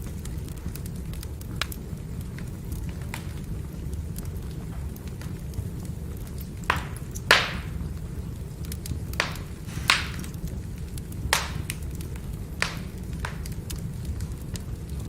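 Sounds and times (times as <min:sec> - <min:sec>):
firewood burning with crackles: 0:00.0 - 0:15.0.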